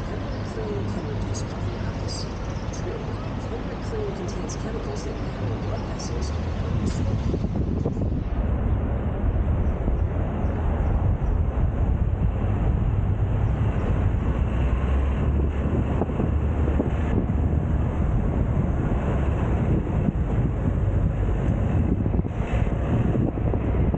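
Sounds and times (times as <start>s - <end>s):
road and traffic noise: 0.0s - 23.9s
wind rumble on microphone: 0.0s - 23.9s.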